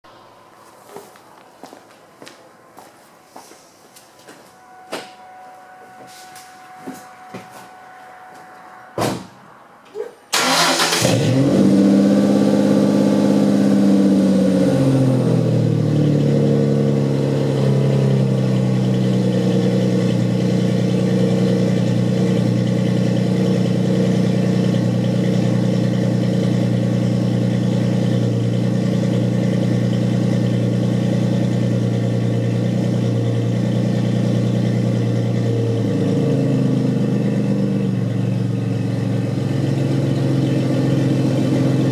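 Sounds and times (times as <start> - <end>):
car engine starting and idling: 4.5 - 41.9.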